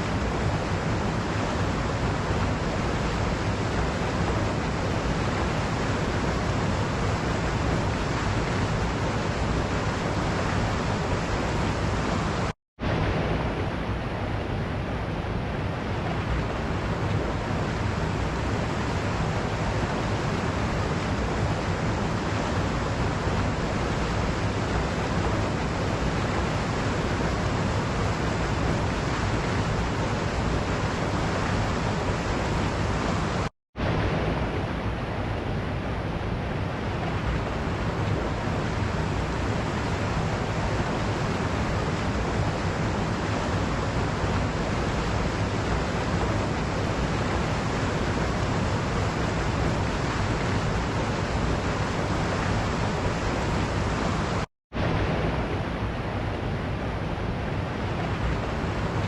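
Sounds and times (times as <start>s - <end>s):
waterfall rushing: 0.0s - 14.0s, 15.8s - 35.7s, 36.6s - 59.0s.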